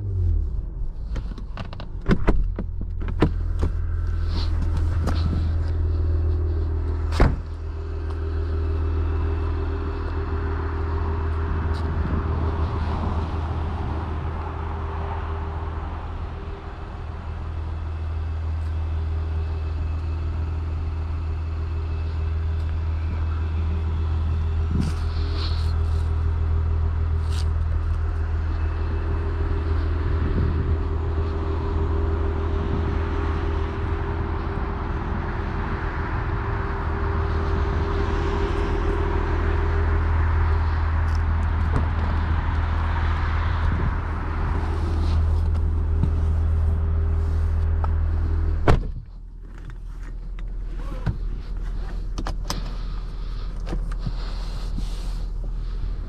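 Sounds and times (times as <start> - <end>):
car engine low hum: 0.0 - 56.0.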